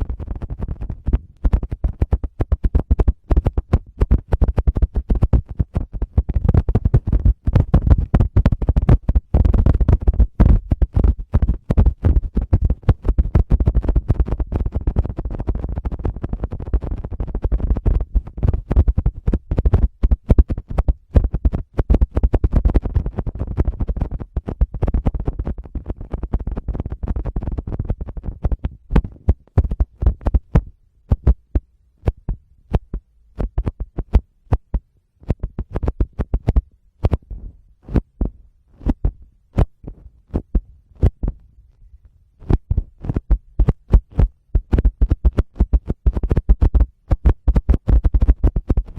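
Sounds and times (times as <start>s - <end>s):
fingers tapping on a microphone: 0.0s - 48.9s.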